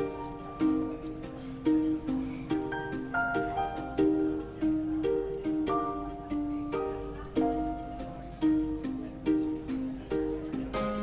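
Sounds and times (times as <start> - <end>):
plucked string instrumental music: 0.0 - 11.0.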